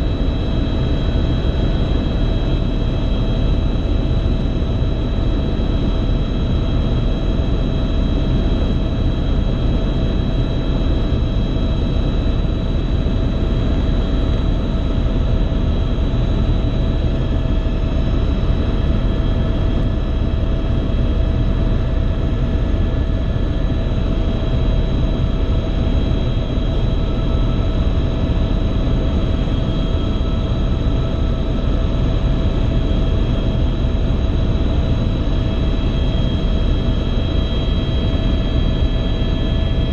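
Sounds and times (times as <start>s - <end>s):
deep rotor drone: 0.0s - 39.9s
helicopter engine whine: 0.0s - 39.9s.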